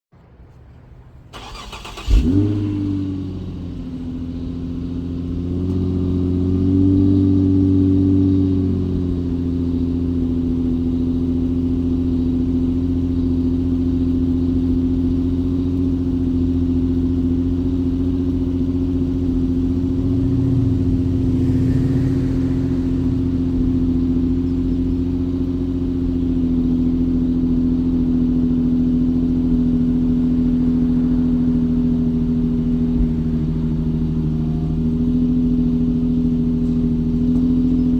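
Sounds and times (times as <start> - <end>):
car engine idling: 0.2 - 37.9.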